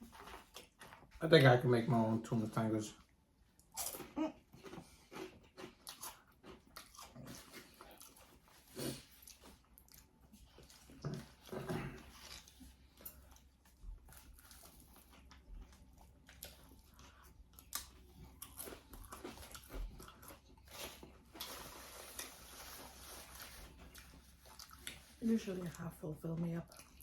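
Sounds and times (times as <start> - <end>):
chewing sandwich crunches: 0.0 - 1.2, 3.0 - 25.2.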